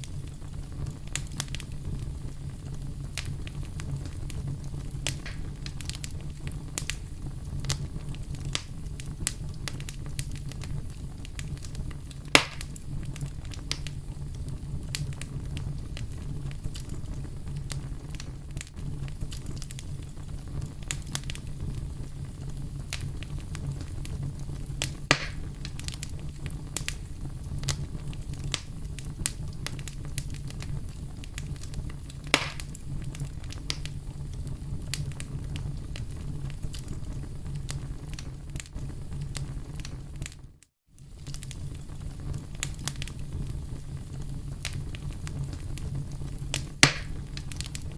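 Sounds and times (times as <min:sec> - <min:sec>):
campfire crackling: 0:00.0 - 0:47.9
loud fire pops: 0:00.0 - 0:47.9.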